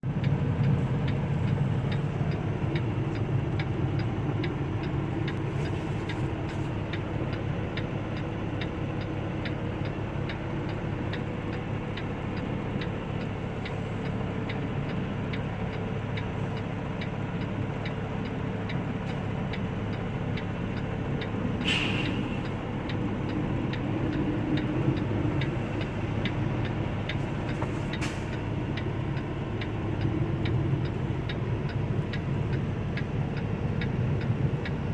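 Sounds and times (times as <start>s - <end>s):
vehicle driving at highway speed: 0.0s - 34.9s
light regular ticking: 0.1s - 34.9s.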